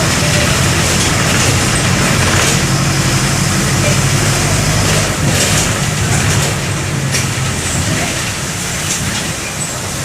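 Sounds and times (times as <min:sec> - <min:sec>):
bus diesel engine running: 0:00.0 - 0:10.0
road rumble: 0:00.0 - 0:10.0.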